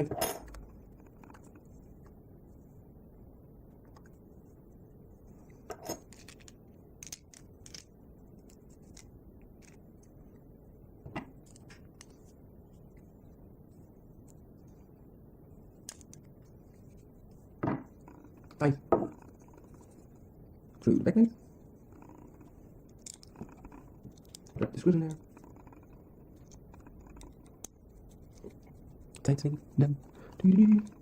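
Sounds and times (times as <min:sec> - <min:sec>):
steady low hiss: 0:00.0 - 0:31.0.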